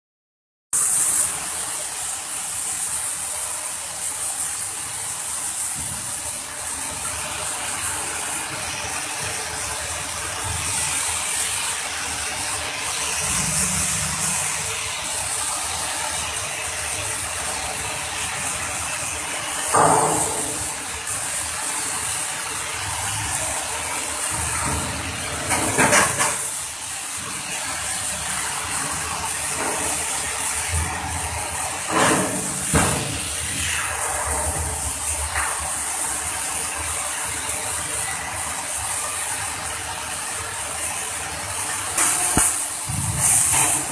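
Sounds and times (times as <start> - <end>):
arc welding crackle: 0.8 - 43.9.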